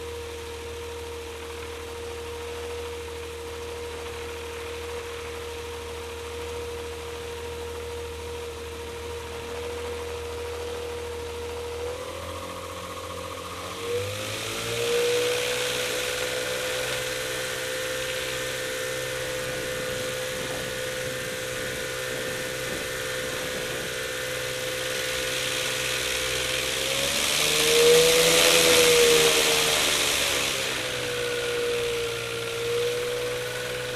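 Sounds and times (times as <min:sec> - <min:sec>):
light aircraft engine and propeller: 0:00.0 - 0:33.9.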